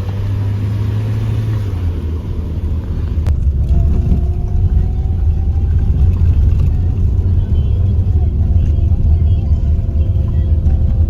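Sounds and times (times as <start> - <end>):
loud low rumble: 1.9 - 11.0.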